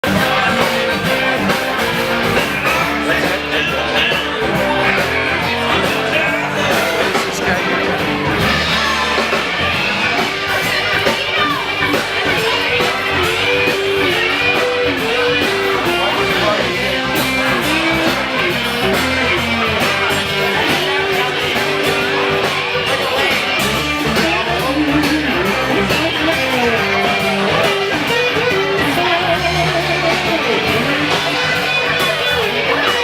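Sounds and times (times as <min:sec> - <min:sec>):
rock and roll music: 0:00.0 - 0:33.0.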